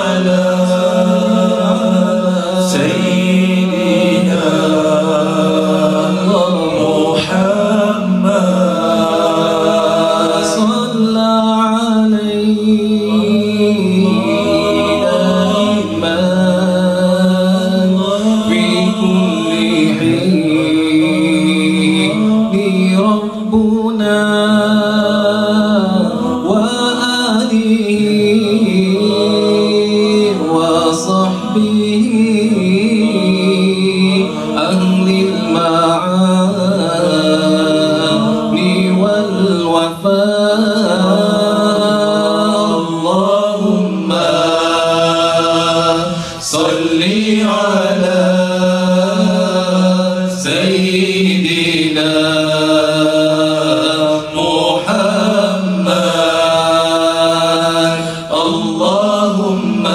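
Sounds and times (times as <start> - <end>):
men chanting a devotional song: 0.0 - 59.9.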